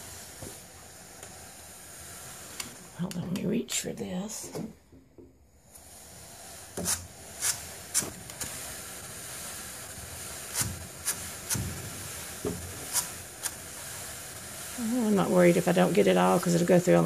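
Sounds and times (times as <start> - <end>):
drum carder rustling hiss: 0.0 - 4.8, 5.6 - 17.0.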